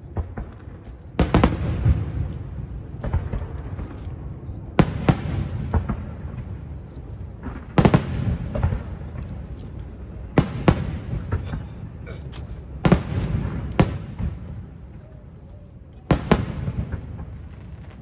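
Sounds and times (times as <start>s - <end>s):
firework shells bursting: 0.0s - 14.9s
steady low rumble: 0.0s - 18.0s.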